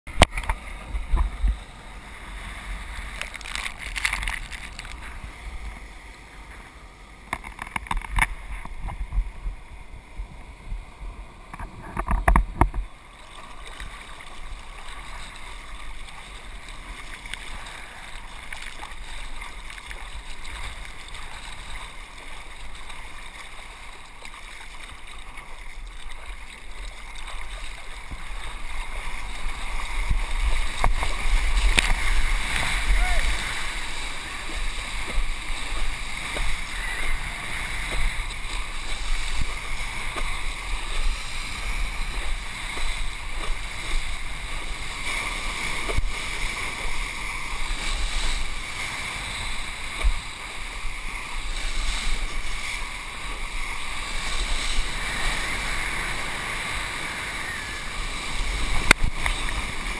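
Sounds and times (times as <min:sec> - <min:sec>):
water splashing: 0:00.1 - 0:09.7, 0:11.5 - 0:59.9
water lapping: 0:00.2 - 0:59.9.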